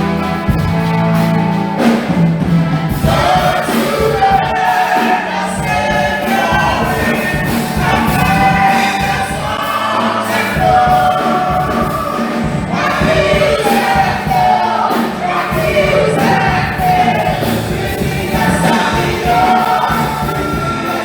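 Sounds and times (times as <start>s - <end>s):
musical accompaniment: 0.0s - 21.0s
choir singing: 1.6s - 21.0s.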